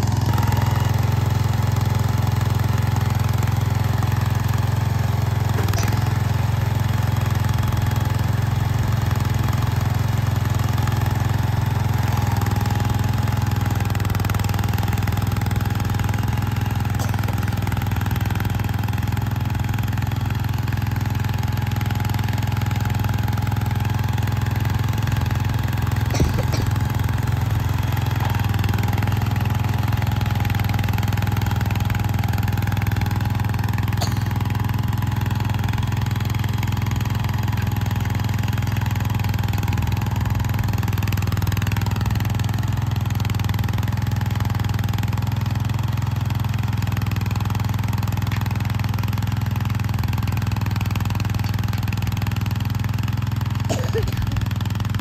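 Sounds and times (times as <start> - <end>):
rototiller churning sod: 0.0 - 55.0
tractor engine running: 0.0 - 55.0.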